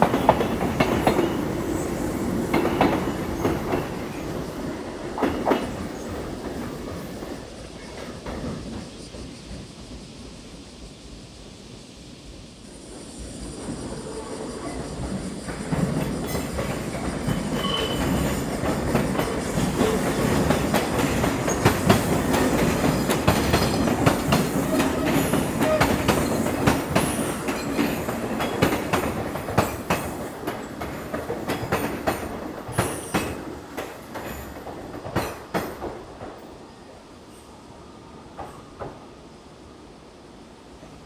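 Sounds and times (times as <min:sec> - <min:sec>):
train wheels clacking: 0:00.0 - 0:10.2, 0:13.5 - 0:36.5.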